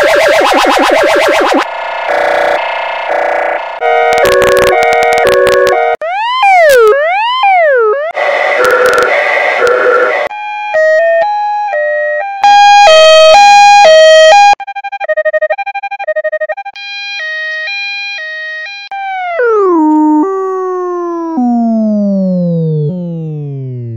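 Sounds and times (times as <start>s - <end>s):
two-tone ambulance siren: 0.0s - 23.9s.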